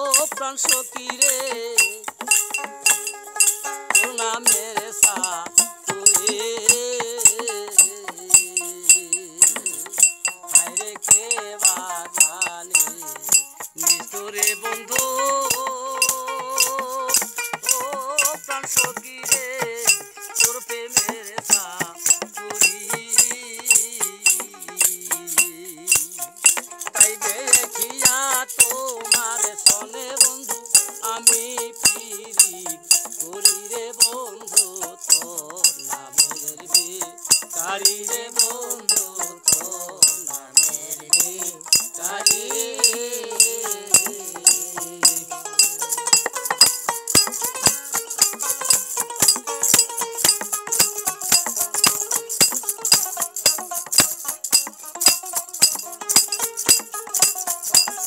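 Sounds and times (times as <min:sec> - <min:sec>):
clinking metal percussion: 0:00.0 - 0:58.0.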